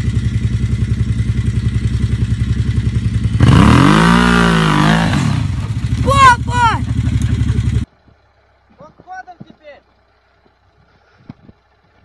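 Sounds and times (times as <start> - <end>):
engine idling and revving: 0.0 - 12.0.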